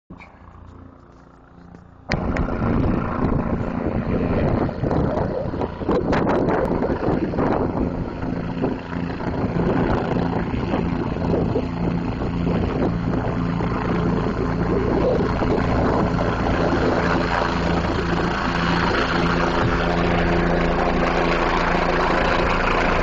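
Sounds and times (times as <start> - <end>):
helicopter rotor and engine: 0.1 - 23.0.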